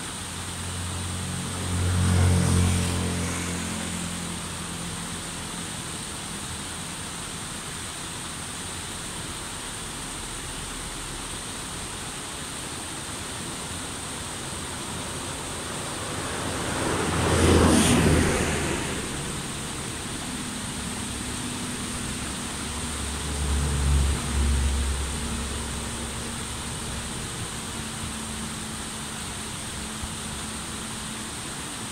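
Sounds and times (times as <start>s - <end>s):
water running over rocky cascade: 0.0s - 31.9s.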